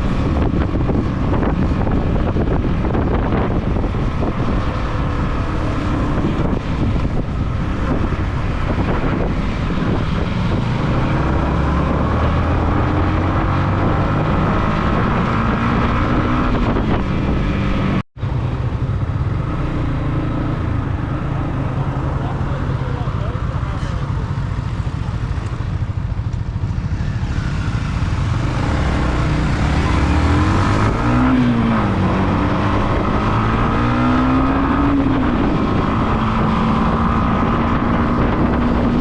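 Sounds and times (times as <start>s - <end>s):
wind buffeting microphone: 0.0s - 18.0s, 24.4s - 39.0s
motorcycle engine accelerating: 0.0s - 39.0s.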